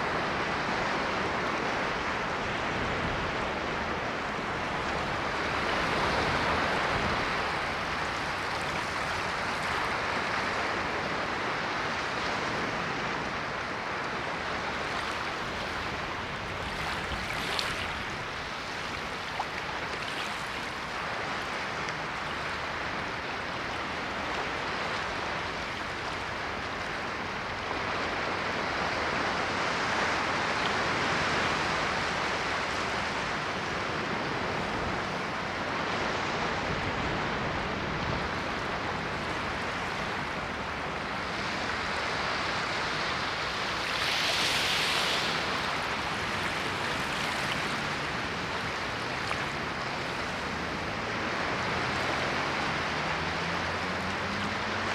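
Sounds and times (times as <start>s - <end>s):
crackle of surf: 0.0s - 54.9s
ocean waves washing: 0.0s - 54.9s.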